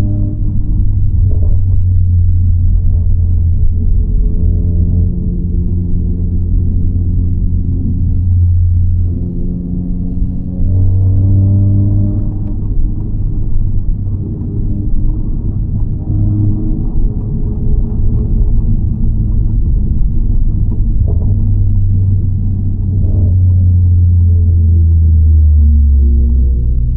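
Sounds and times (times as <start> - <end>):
car engine drone: 0.0 - 26.9.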